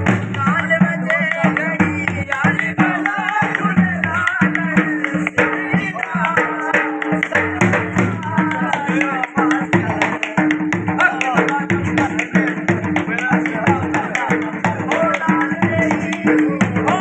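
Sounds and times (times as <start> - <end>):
dhol drum beating: 0.0 - 17.0.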